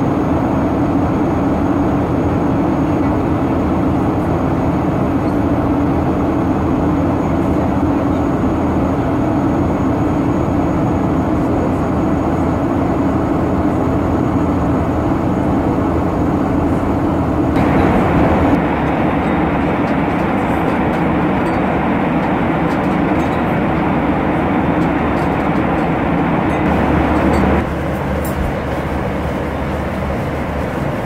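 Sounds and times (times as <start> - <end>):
jet engine and airflow roar: 0.0 - 31.0.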